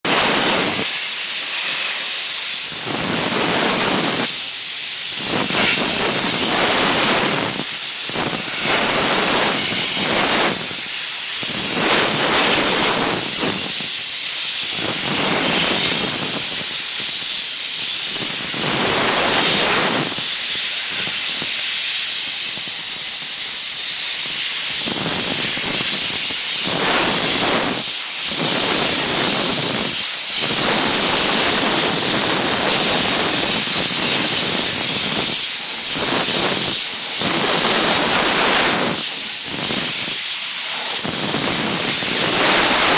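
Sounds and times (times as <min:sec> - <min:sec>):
steam cleaner hissing: 0:00.0 - 0:42.9.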